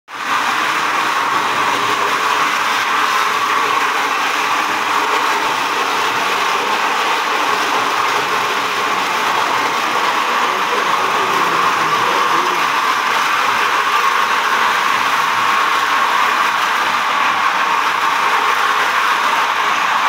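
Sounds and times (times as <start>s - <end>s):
floor sanding machine whirring: 0.2s - 20.0s.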